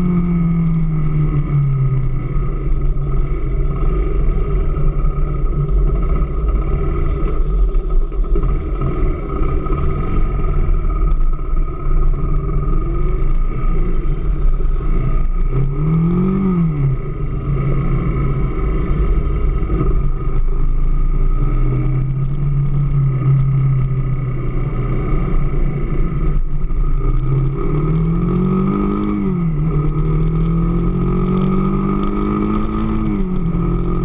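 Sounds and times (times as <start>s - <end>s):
motorcycle engine revving: 0.0s - 34.0s
motorcycle engine running: 0.0s - 34.0s.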